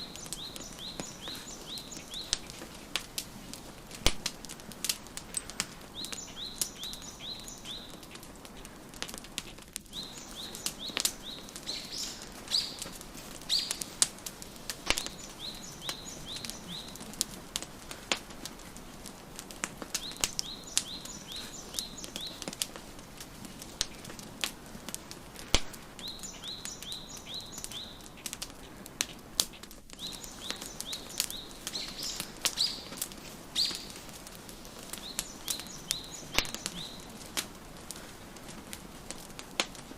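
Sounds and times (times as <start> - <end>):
songbird chirping: 0.0 - 3.1, 5.3 - 8.6, 9.9 - 24.1, 25.2 - 37.4
wood fire crackling: 0.0 - 39.9.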